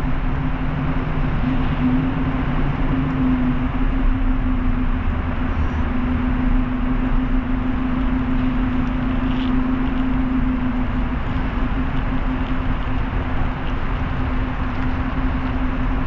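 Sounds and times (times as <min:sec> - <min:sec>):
low hum: 0:00.0 - 0:16.0
road and tyre noise: 0:00.0 - 0:16.0.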